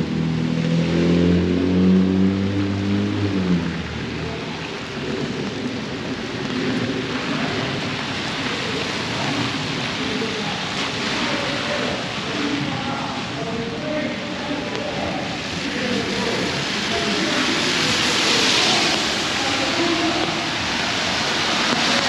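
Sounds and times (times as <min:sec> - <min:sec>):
rain hissing on pavement: 0:01.8 - 0:22.0.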